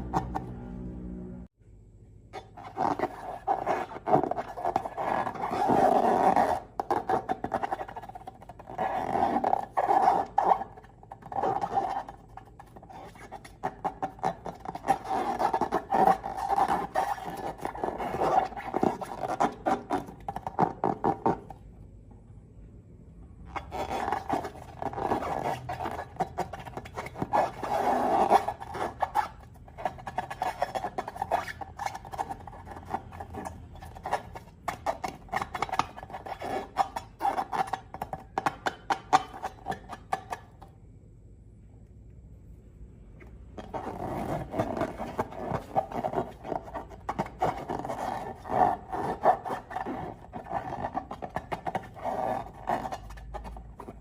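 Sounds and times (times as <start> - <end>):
squeaky rubbing of balloons: 0.0 - 0.6, 2.4 - 21.6, 23.5 - 40.4, 43.6 - 54.0.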